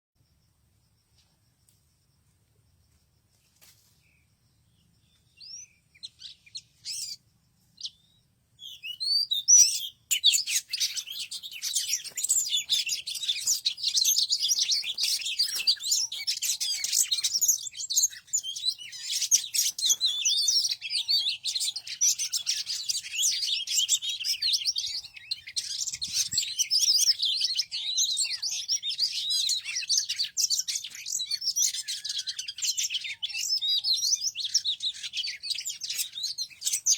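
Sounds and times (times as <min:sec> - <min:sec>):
small birds chirping: 0:00.2 - 0:36.9.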